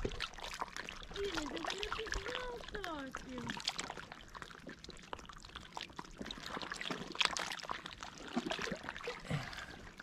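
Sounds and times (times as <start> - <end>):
small water splashes: 0.0 - 10.0
water lapping at shoreline: 0.0 - 10.0.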